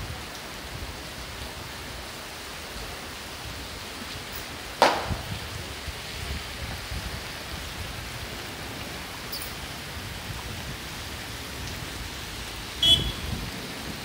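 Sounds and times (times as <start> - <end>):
rain falling on a street: 0.0 - 14.0.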